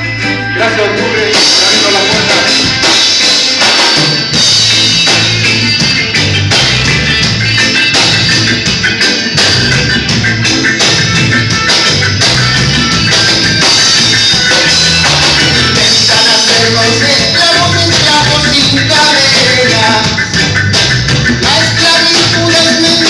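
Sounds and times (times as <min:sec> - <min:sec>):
band music with drums: 0:00.0 - 0:23.0.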